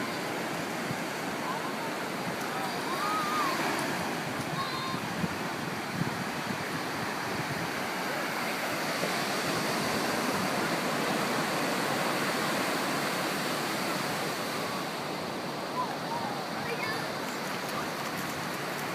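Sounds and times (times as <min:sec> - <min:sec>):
ocean surf breaking: 0:00.0 - 0:18.9.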